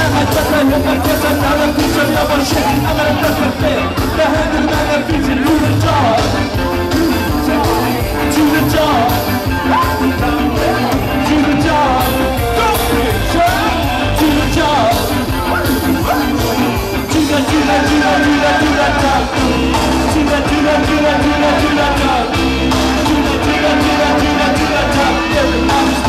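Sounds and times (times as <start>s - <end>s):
person singing lead vocal: 0.0s - 26.0s
ska band playing live: 0.0s - 26.0s.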